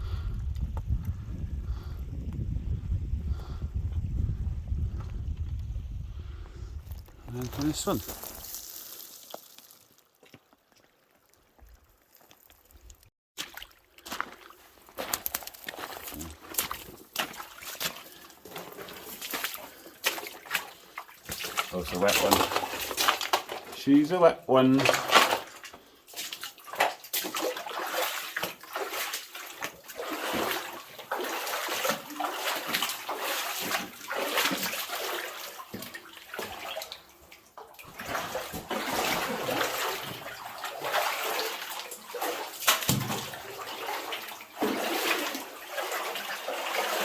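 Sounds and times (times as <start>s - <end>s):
boots sloshing through water: 6.9s - 12.8s, 13.4s - 47.0s.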